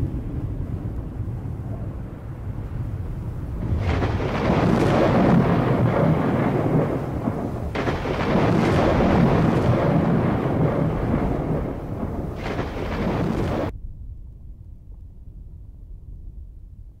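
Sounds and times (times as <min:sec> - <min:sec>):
thunder rumbling and cracking: 0:00.0 - 0:17.0.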